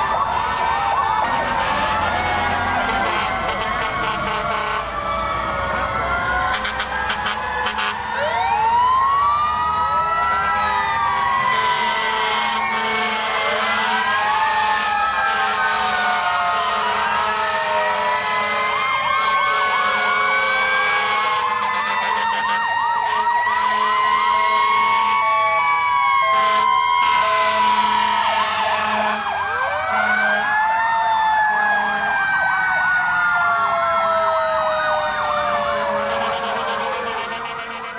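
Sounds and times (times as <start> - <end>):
fire engine sirens wailing: 0.0 - 37.9.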